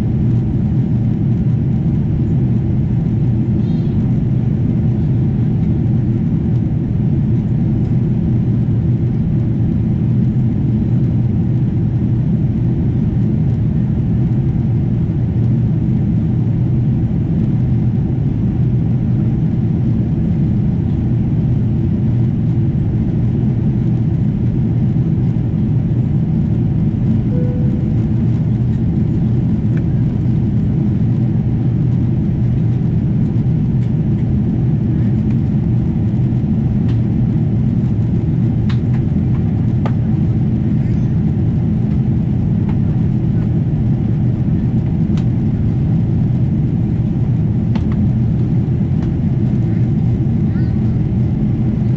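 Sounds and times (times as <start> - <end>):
airplane engines rumbling in cabin: 0.0 - 51.9.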